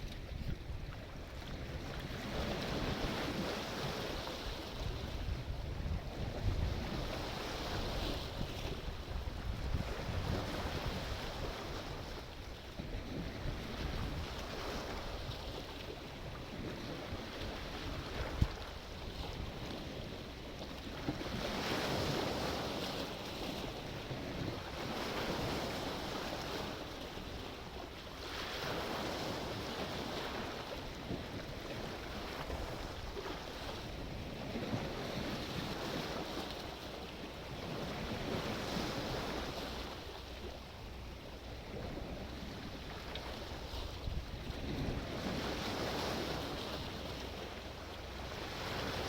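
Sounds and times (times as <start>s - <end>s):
sea waves breaking: 0.0s - 49.0s
wind rumbling on microphone: 0.0s - 49.0s.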